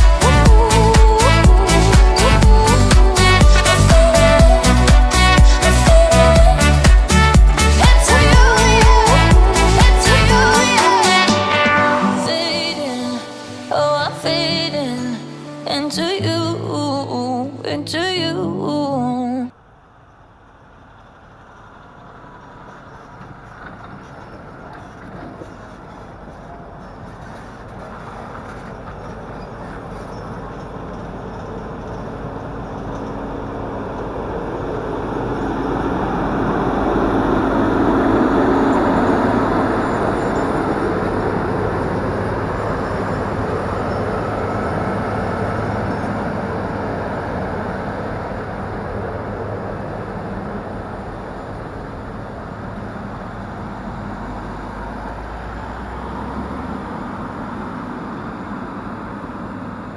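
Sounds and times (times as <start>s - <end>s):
diesel engine passing by: 0.0s - 17.8s, 19.6s - 59.9s.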